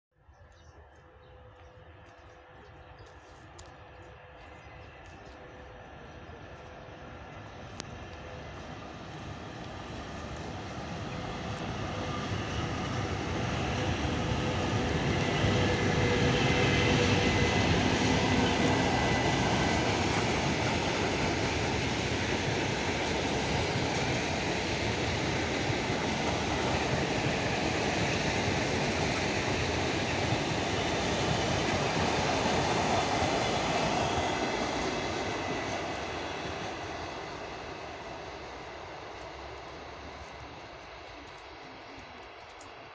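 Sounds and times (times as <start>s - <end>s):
train wheels rolling on rails: 1.0s - 42.9s.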